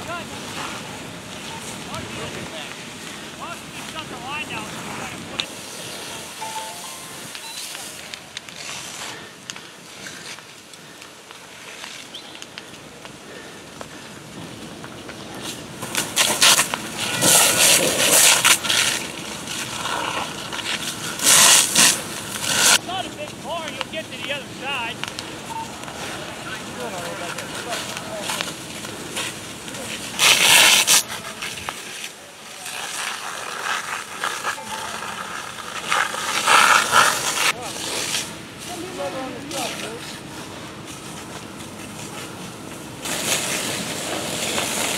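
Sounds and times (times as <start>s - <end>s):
fire hose spraying water: 0.0s - 44.9s.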